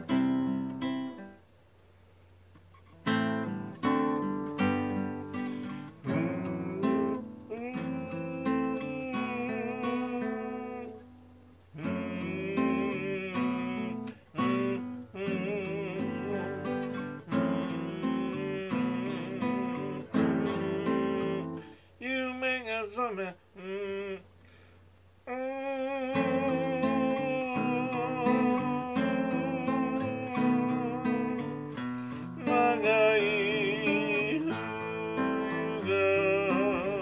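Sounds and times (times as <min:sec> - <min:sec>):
strummed acoustic guitar: 0:00.0 - 0:01.4, 0:02.5 - 0:37.0
man singing with vibrato: 0:03.3 - 0:37.0.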